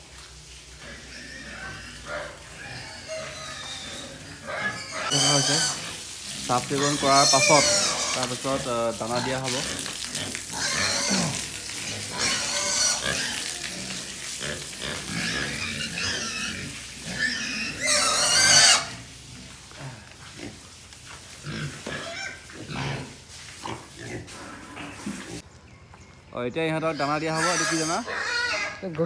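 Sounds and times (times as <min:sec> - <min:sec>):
pigs squealing: 0:00.7 - 0:20.7, 0:21.4 - 0:25.4, 0:26.7 - 0:29.0
pigs grunting: 0:00.7 - 0:25.4, 0:26.8 - 0:29.0.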